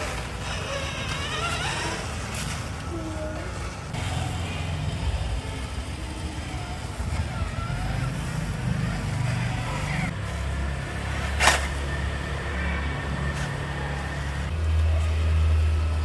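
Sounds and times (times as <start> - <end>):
rc car motor rumble: 0.0 - 16.0.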